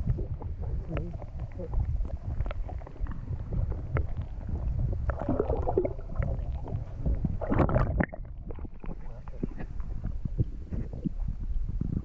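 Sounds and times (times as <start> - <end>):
water splashing: 0.0 - 11.1
muffled underwater water sloshing: 0.0 - 12.0.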